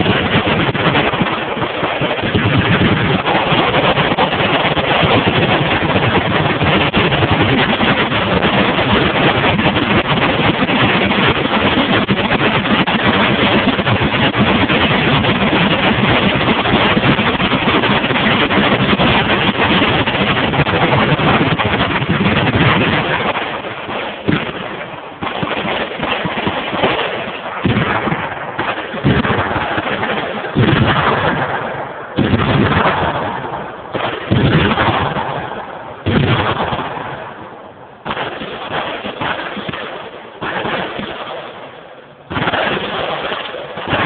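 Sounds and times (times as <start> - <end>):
automatic gunfire: 0.0 - 44.0.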